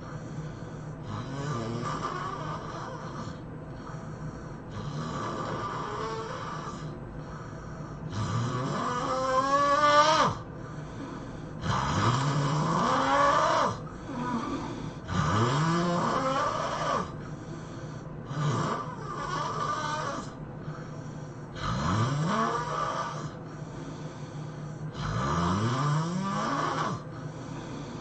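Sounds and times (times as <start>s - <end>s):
person snoring: 0.0s - 28.0s.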